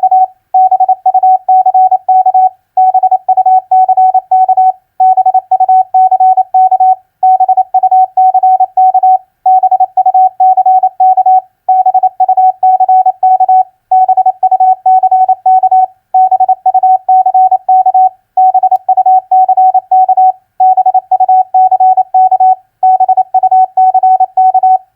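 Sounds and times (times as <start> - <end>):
morse code tone: 0.0 - 24.8.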